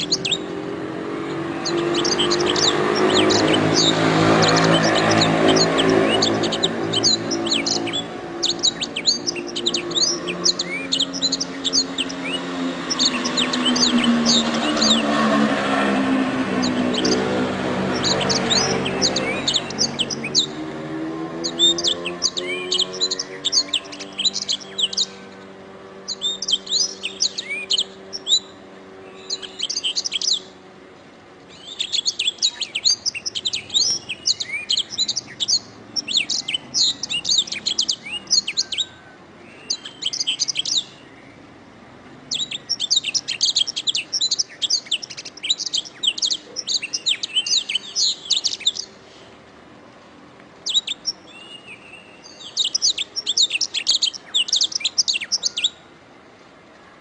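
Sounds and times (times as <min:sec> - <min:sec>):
canary singing: 0:00.0 - 0:30.8, 0:31.4 - 0:41.6, 0:42.2 - 0:49.2, 0:50.6 - 0:56.0.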